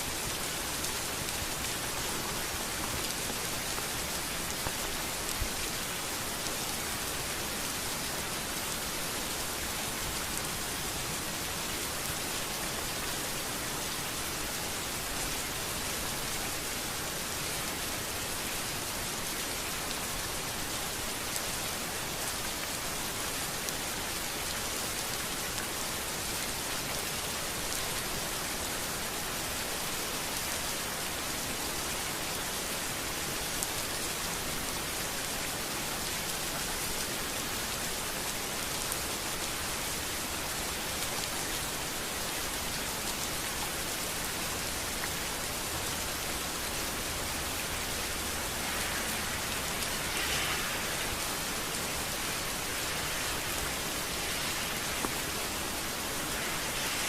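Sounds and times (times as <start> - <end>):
rain falling on a street: 0.0 - 57.0.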